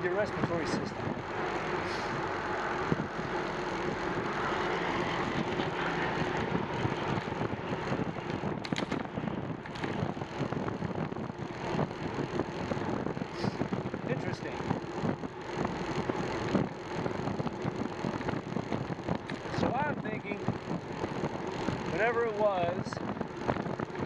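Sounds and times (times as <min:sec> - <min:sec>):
bicycle tyres on pavement: 0:00.0 - 0:24.0
wind over microphone: 0:00.0 - 0:24.0.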